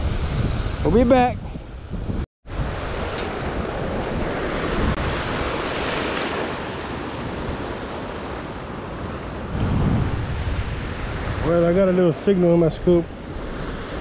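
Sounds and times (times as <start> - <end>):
wind buffeting microphone: 0.0 - 14.0
small waves washing in shallows: 2.5 - 14.0.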